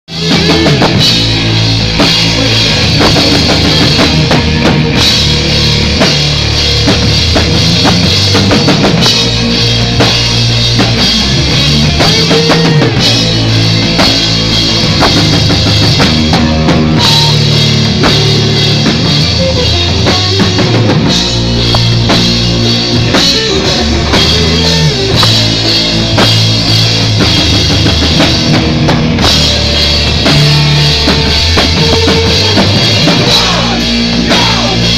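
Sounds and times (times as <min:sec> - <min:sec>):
rock band playing live: 0:00.0 - 0:34.9
drum kit beat: 0:00.1 - 0:34.9.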